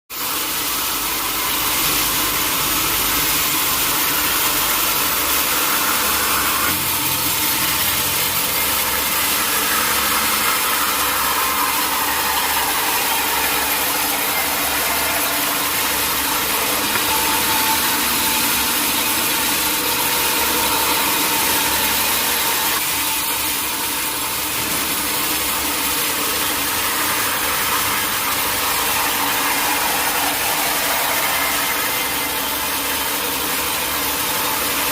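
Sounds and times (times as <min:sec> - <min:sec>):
sawmill log saw running: 0:00.1 - 0:34.9.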